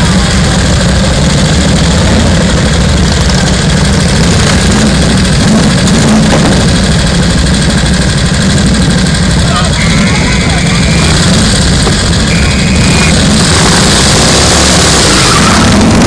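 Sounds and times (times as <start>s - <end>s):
motorcycles idling: 0.0s - 16.0s.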